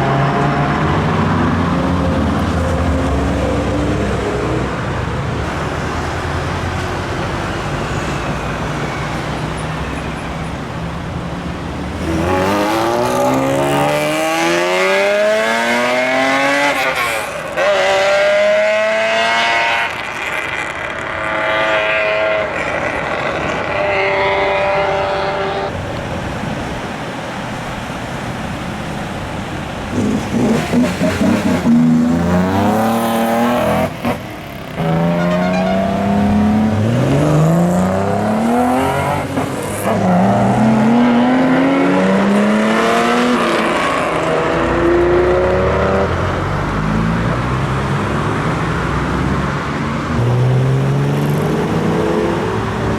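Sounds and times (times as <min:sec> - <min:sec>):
car engines revving and accelerating: 0:00.0 - 0:52.9.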